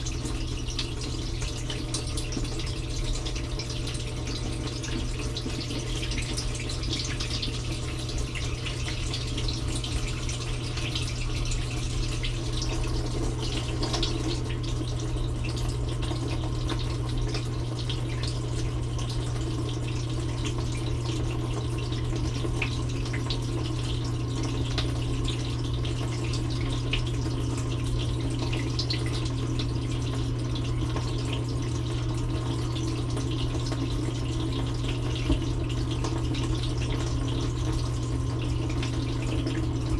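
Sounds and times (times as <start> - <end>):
dishwasher humming: 0.0 - 39.9
water dripping: 0.0 - 39.9.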